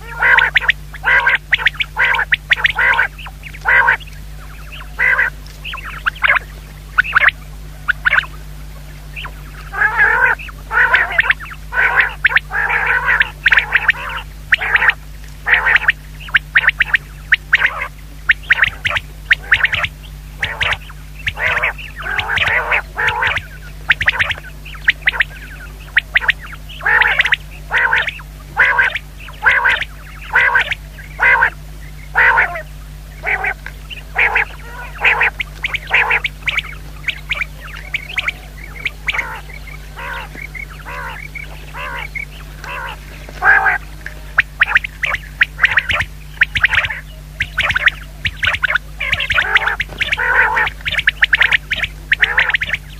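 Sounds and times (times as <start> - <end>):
low electrical hum: 0.0 - 52.9
quail calling: 0.0 - 52.9.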